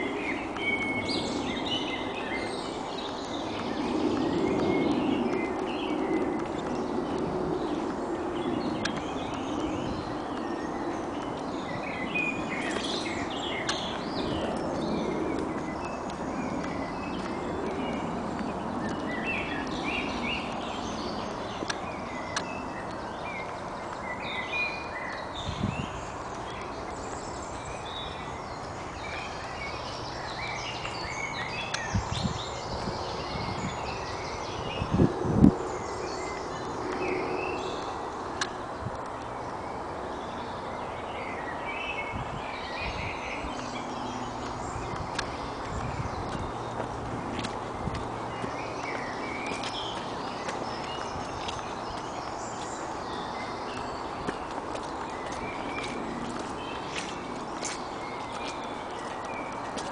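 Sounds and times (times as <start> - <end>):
songbirds singing and chirping: 0.0 - 59.9
steady background noise: 0.0 - 59.9.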